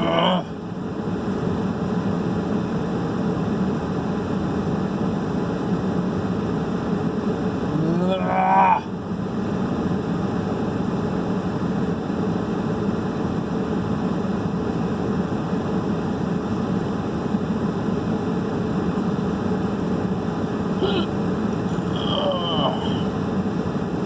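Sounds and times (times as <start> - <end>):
heater humming and blowing air: 0.0 - 24.0.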